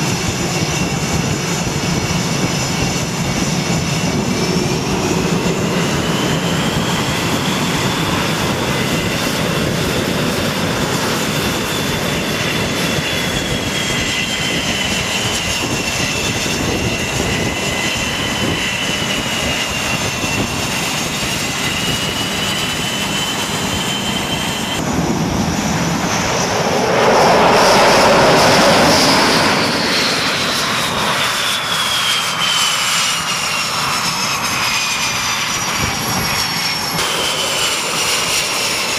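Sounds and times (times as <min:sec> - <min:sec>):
turbine aircraft engines whining: 0:00.0 - 0:38.9.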